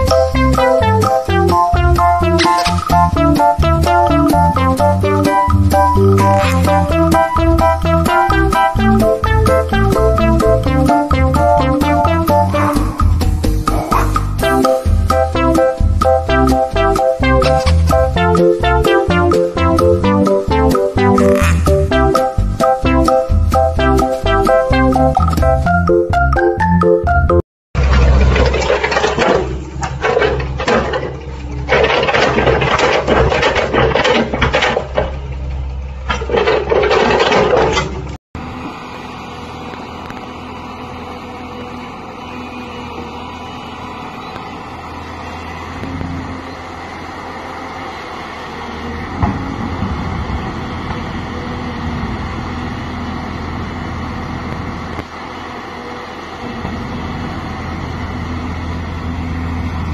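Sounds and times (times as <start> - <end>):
heavy machinery engine running: 0.0 - 26.4, 27.8 - 59.9.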